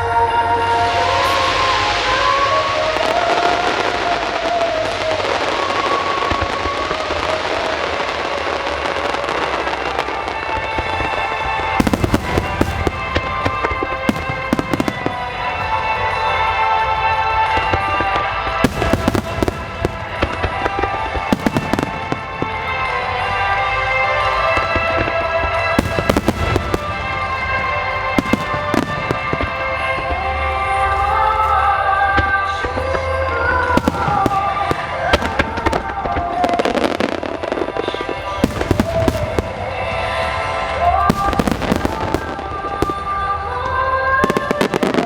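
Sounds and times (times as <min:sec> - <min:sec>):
fireworks bursting and crackling: 0:00.0 - 0:45.0
music: 0:00.0 - 0:45.0.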